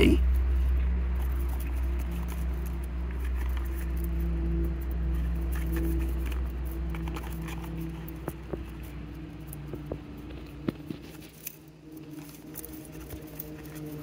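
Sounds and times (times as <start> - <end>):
plant fibres rustling and crackling: 0.0 - 14.0
steady low hum: 0.0 - 14.0.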